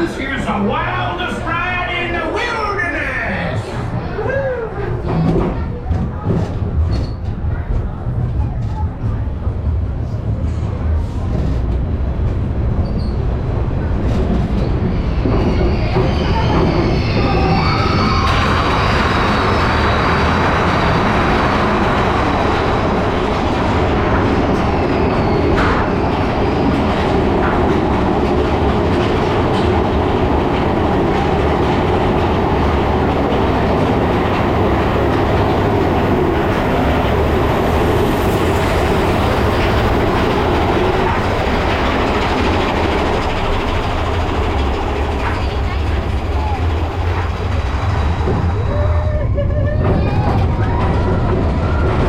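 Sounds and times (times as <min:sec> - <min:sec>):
roller coaster wheels rumbling: 0:00.0 - 0:52.0.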